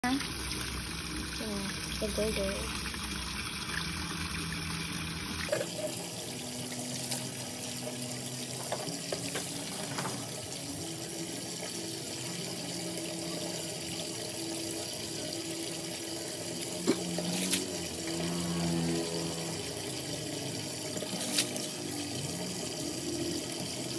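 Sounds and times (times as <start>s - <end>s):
water running from tap: 0.0s - 23.9s.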